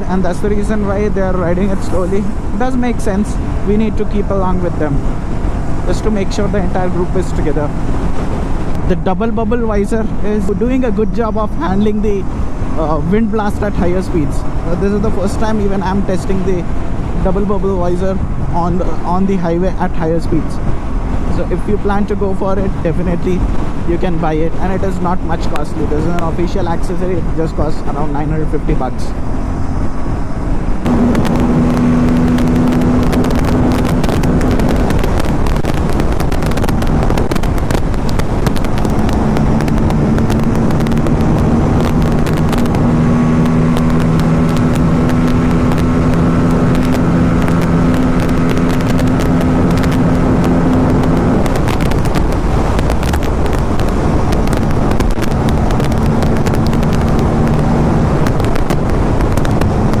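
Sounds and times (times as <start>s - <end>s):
motorcycle engine drone: 0.0s - 60.0s
wind rush on microphone: 0.0s - 60.0s.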